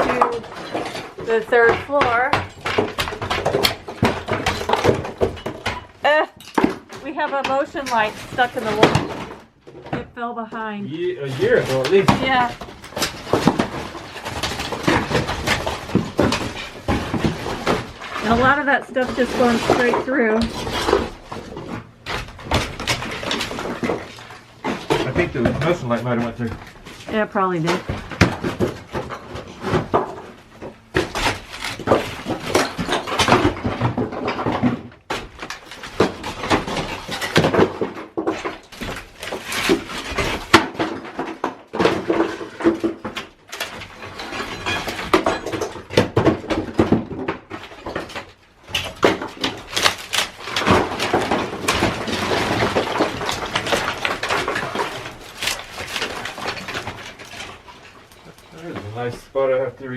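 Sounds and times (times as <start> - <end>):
plaster cracking and scraping: 0.0 - 10.3, 10.9 - 59.9
debris falling: 0.0 - 59.9.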